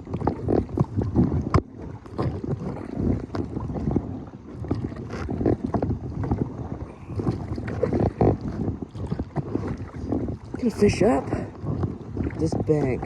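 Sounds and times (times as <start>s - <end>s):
kayak knocking on water: 0.0s - 13.0s
wind buffeting microphone: 0.0s - 13.0s.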